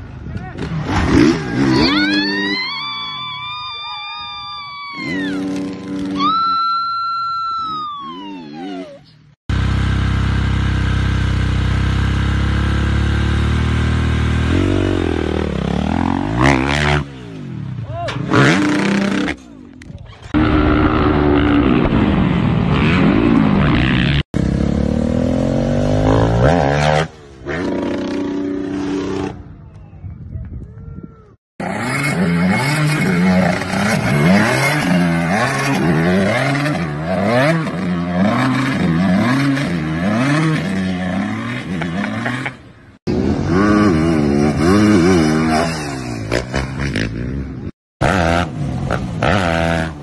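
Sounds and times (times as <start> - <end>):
dirt bike engines revving: 0.0 - 29.6, 31.2 - 50.0.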